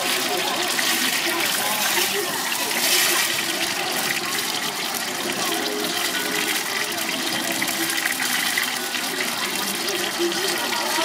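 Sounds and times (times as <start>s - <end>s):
hot oil sizzling and bubbling: 0.0s - 11.0s.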